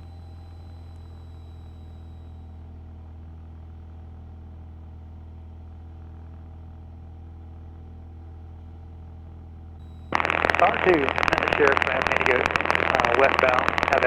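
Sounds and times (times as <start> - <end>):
airplane engine drone in flight: 0.0 - 14.0.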